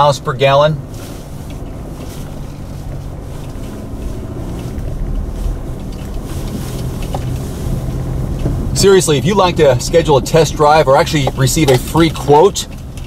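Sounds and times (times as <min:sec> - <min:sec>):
low engine drone: 0:00.0 - 0:13.0
road and tyre noise: 0:00.0 - 0:13.0.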